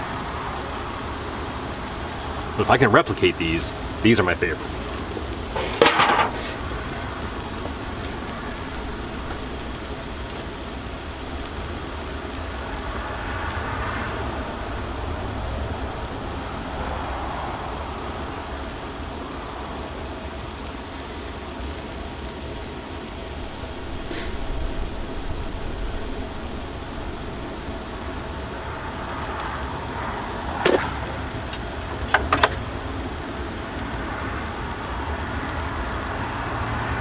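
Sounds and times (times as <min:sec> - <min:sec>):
food sizzling on a griddle: 0:00.0 - 0:37.0.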